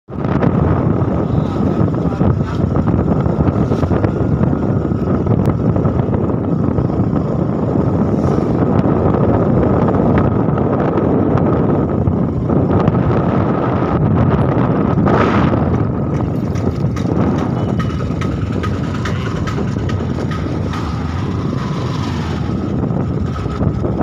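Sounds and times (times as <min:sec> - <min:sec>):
wind rushing over microphone: 0:00.1 - 0:24.0
motorcycle engine running: 0:00.2 - 0:24.0.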